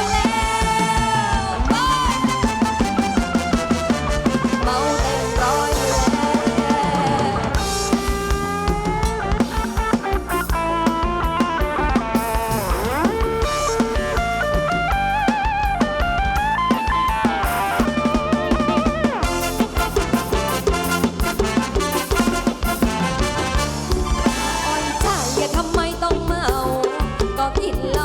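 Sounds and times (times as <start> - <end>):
lead melody with bent notes: 0.0 - 28.0
steady drum beat: 0.0 - 28.0.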